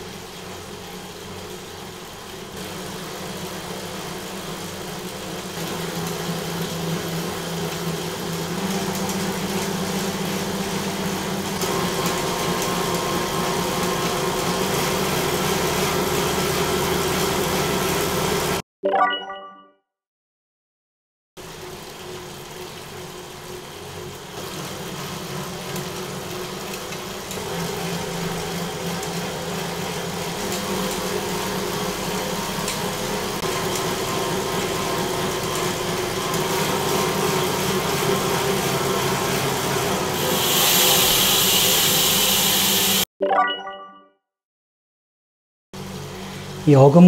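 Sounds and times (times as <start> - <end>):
bike tyre whirring on roller trainer: 0.0 - 18.6, 21.4 - 43.1, 45.8 - 46.7.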